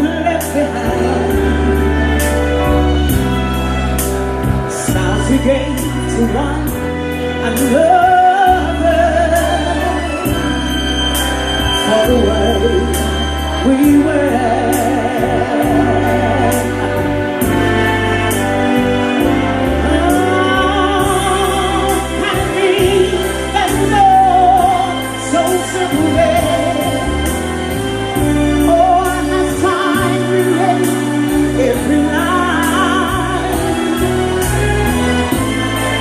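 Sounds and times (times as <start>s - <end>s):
person singing with vibrato: 0.0s - 3.4s, 4.6s - 36.0s
bass notes: 0.0s - 36.0s
soul ballad band: 0.0s - 36.0s.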